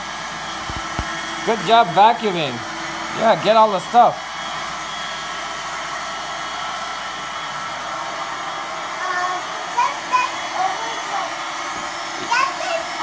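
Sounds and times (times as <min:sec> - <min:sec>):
vacuum cleaner motor whirring: 0:00.0 - 0:13.0.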